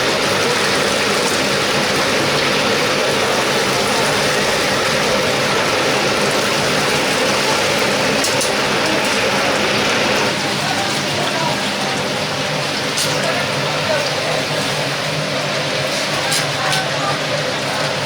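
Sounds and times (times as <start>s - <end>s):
chicken deep-frying in oil: 0.0s - 18.0s.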